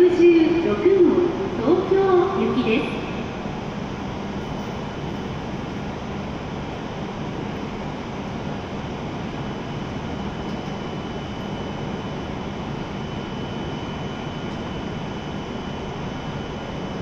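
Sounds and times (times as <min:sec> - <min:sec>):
train equipment whirring drone: 0:00.0 - 0:17.0.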